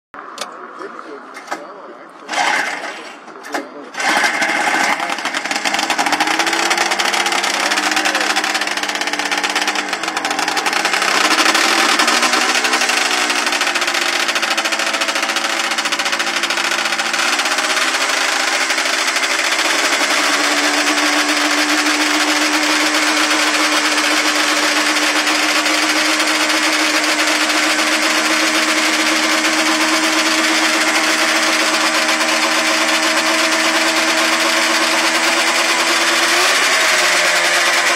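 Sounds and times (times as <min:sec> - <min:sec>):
snowmobile engine revving and idling: 0:02.2 - 0:03.2, 0:03.8 - 0:37.9.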